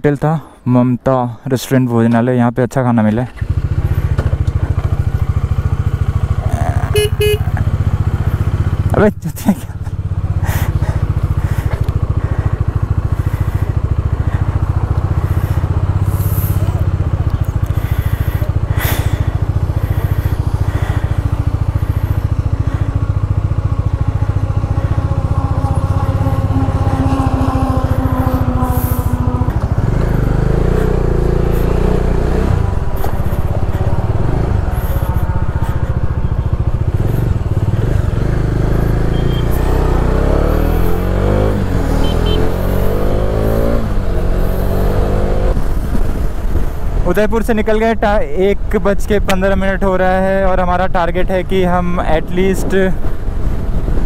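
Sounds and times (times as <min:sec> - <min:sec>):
engine knocks and clatters: 0:03.1 - 0:54.0
motorcycle riding off: 0:03.2 - 0:47.2, 0:52.2 - 0:54.0
motorcycle engine idling: 0:03.3 - 0:47.1.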